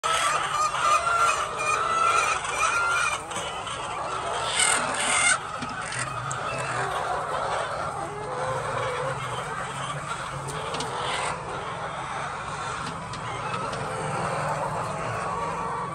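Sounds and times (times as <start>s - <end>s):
hens clucking and calling: 0.0s - 15.9s.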